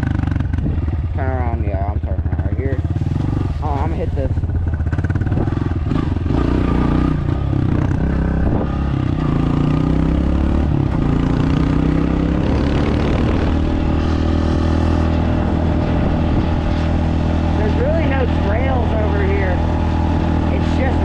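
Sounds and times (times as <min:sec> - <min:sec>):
dirt bike engine accelerating: 0:00.0 - 0:21.0.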